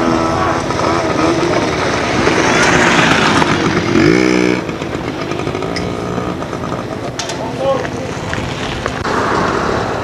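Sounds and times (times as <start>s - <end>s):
motocross motorcycle engines running: 0.0s - 10.0s
motorcycle engine revving: 0.0s - 10.0s.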